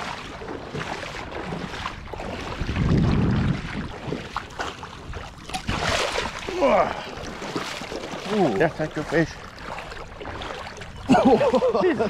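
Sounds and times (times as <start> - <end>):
fish splashing in water: 0.0 - 11.4
wind buffeting microphone: 0.0 - 12.0.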